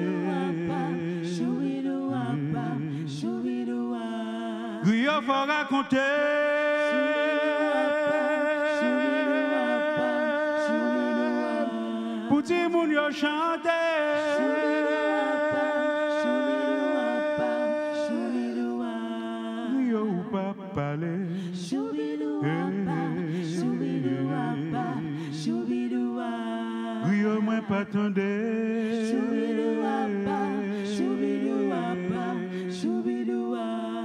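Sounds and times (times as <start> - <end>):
voices singing slow song: 0.0 - 34.0.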